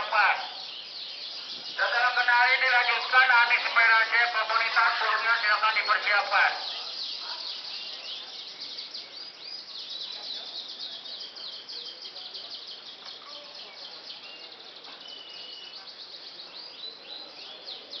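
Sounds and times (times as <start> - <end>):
canaries singing: 0.0 - 18.0.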